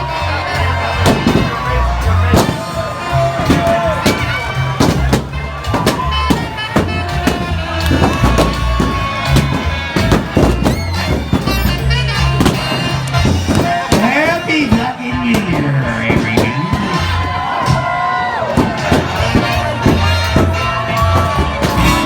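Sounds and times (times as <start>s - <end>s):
drums steady beat: 0.0s - 22.0s
heavy bass line: 0.0s - 22.0s
live band playing: 0.0s - 22.0s.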